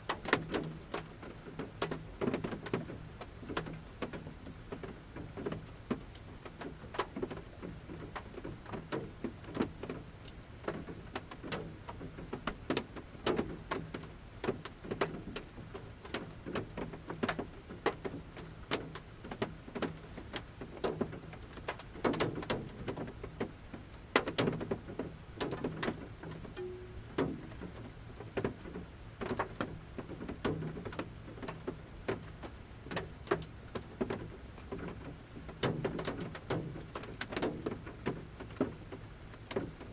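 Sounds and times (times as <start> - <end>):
raindrops tapping on metal roof: 0.0 - 39.9.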